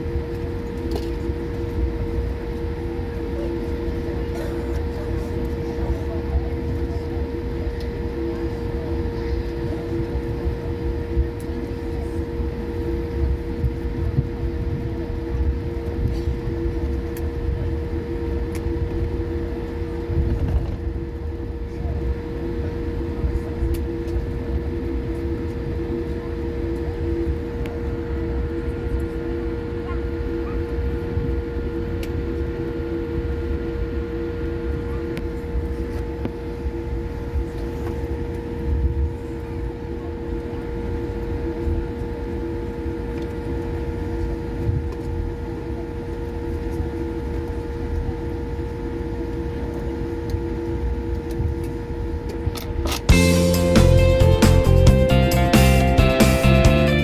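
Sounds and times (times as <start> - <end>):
jet engine hum in cabin: 0.0 - 57.0.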